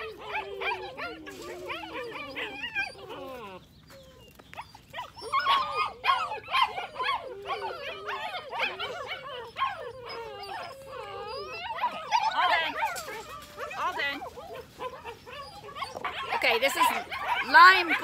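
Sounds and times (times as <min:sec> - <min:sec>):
puppies whining and yelping: 0:00.0 - 0:18.0.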